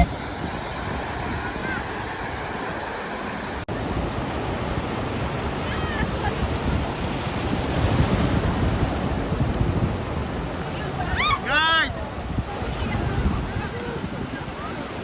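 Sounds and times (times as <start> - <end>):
sea surf: 0.0 - 15.0
wind buffeting microphone: 0.0 - 15.0.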